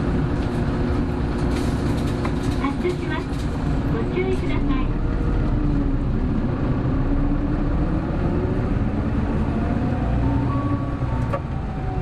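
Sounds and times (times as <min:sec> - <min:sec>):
bus driving with road rumble: 0:00.0 - 0:12.0.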